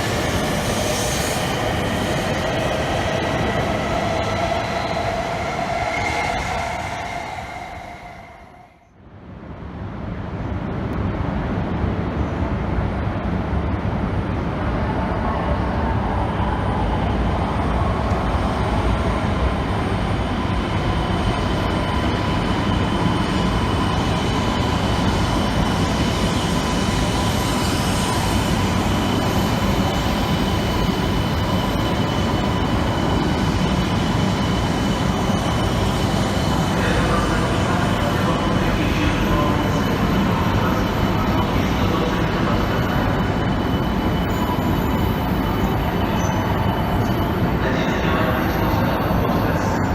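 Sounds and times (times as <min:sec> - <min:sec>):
train rumble: 0:00.0 - 0:08.9, 0:09.6 - 0:49.9
faint high whine: 0:00.0 - 0:09.0, 0:18.0 - 0:49.9.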